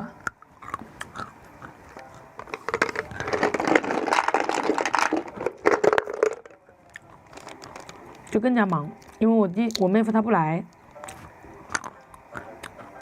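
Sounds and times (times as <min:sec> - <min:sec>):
eating crunching and crackling: 0:00.2 - 0:13.0.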